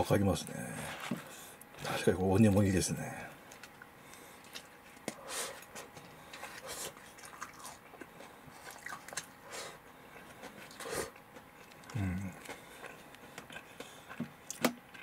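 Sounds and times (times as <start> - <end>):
person chewing with soft crunches: 0.8 - 15.0.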